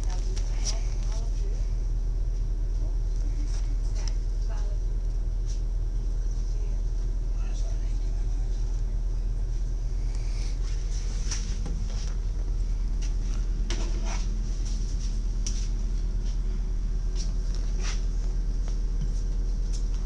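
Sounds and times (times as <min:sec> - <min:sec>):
railcar interior drone: 0:00.0 - 0:20.0.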